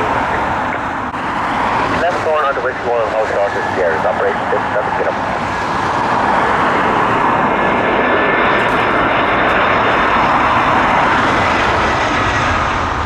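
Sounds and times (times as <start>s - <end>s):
jet engines rushing with whine: 0.0s - 13.0s.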